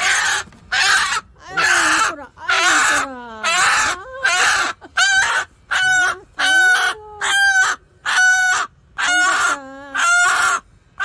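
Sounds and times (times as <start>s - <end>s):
hen squawking: 0.0s - 11.0s.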